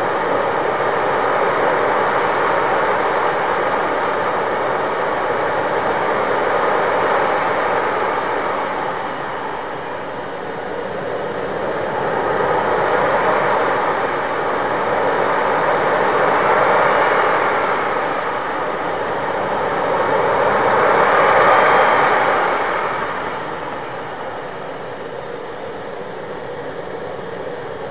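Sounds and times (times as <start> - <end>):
faint whine: 0.0 - 27.9
turbine engine rushing: 0.0 - 27.9.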